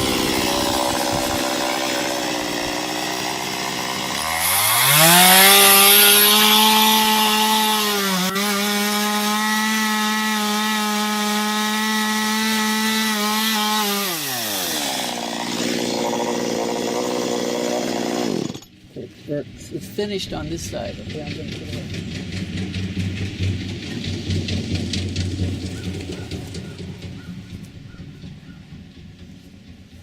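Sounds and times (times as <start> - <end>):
chainsaw revving and cutting wood: 0.0 - 18.8, 20.3 - 27.7.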